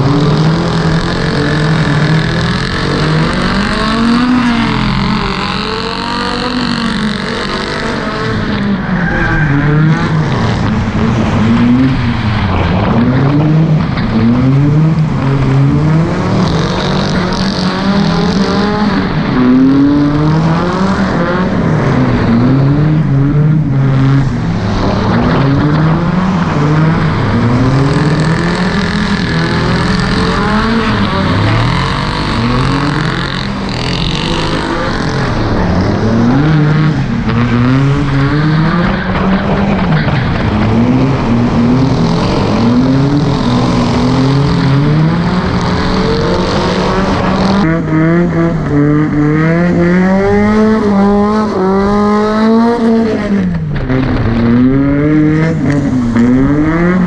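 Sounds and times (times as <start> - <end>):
car engine revving: 0.0 - 57.0
tyre noise on wet track: 0.0 - 57.0.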